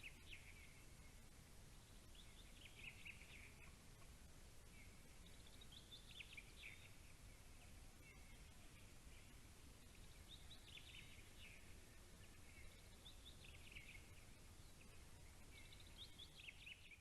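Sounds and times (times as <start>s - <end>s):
faint songbirds singing: 0.0s - 17.0s.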